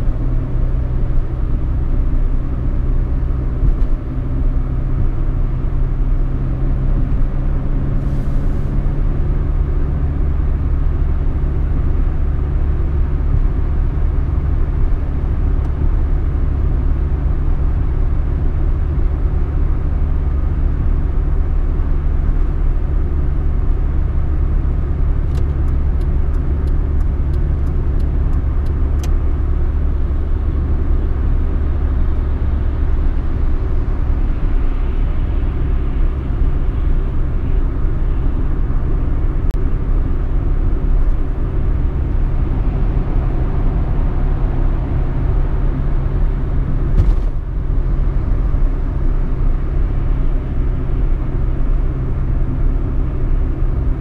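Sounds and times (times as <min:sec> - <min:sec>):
car engine and road rumble: 0:00.0 - 0:54.0
engine hum: 0:00.0 - 0:54.0.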